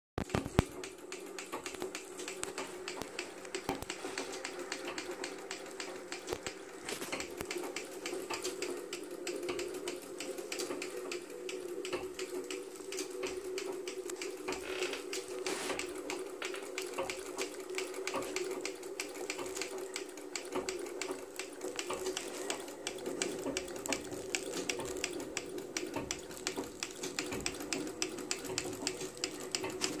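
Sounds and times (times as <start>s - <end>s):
treadle sewing machine running: 0.2s - 30.0s.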